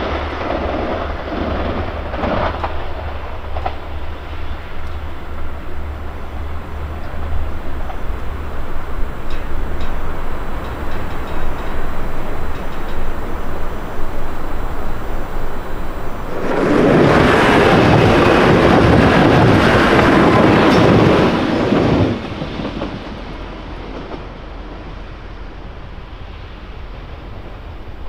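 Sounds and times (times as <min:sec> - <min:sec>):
train wheels clickety-clack: 0:00.0 - 0:27.8
train approaching slowly: 0:00.0 - 0:28.0
train passing at speed: 0:00.0 - 0:28.0.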